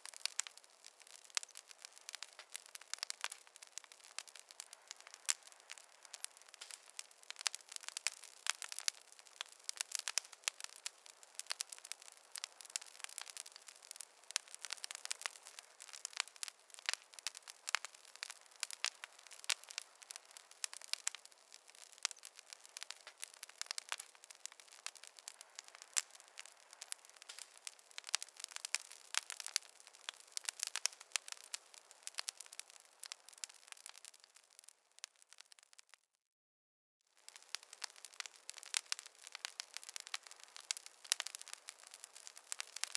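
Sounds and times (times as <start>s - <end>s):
campfire crackling: 0.0s - 36.0s, 37.1s - 42.9s.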